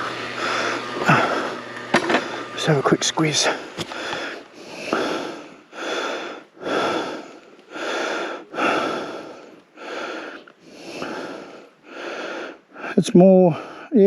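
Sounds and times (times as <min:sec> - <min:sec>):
person breathing hard: 0:00.3 - 0:02.6, 0:03.4 - 0:14.0.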